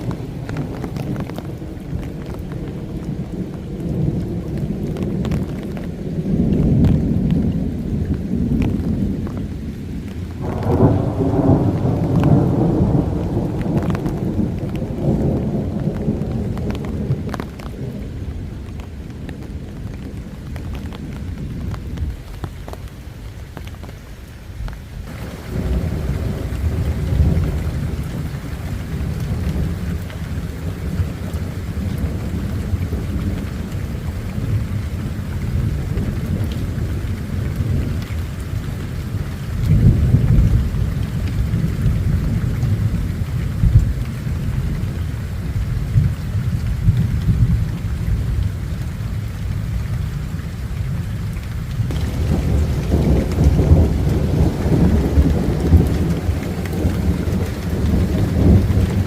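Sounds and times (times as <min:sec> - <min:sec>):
thunder rumbling: 0:00.0 - 0:22.7, 0:25.0 - 0:59.0
steady rain: 0:00.0 - 0:59.0.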